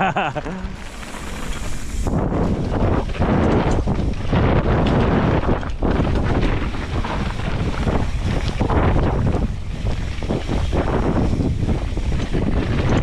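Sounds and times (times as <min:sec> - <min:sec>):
bike knocks and rattles: 0:00.0 - 0:13.0
tyres rumbling on dirt trail: 0:00.0 - 0:13.0
wind buffeting microphone: 0:00.0 - 0:13.0.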